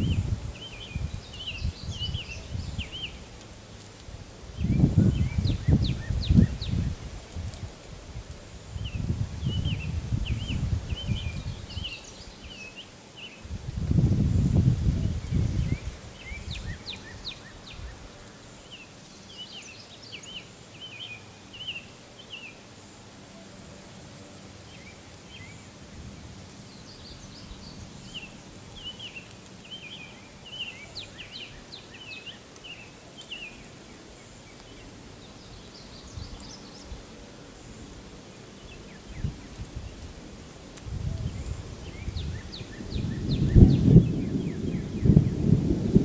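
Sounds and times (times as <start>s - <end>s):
outdoor background: 0.0s - 46.0s
songbirds chirping: 0.0s - 46.0s.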